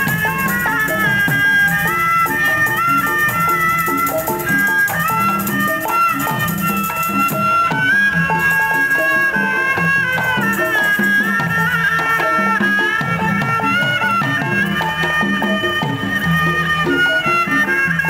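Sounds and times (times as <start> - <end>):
steady drumming: 0.0 - 18.0.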